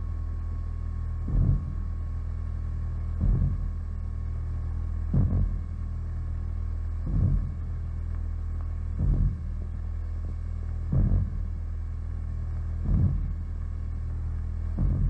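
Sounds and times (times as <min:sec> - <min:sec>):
dull heartbeat-like throb: 0:00.0 - 0:15.0
low electronic hum: 0:00.0 - 0:15.0.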